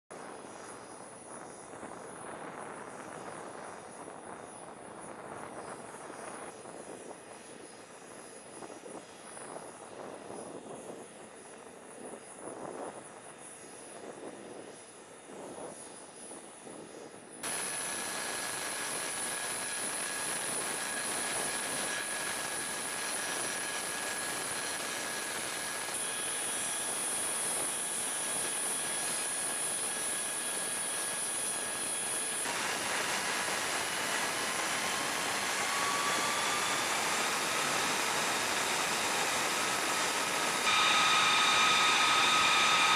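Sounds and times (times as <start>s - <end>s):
high-pitched turbine whines: 0.2s - 42.9s
jet engine hiss and whine: 0.2s - 42.9s.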